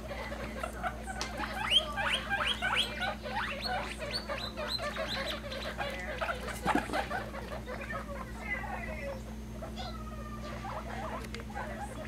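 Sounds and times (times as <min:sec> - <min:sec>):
guinea pigs squeaking: 0:00.0 - 0:12.0.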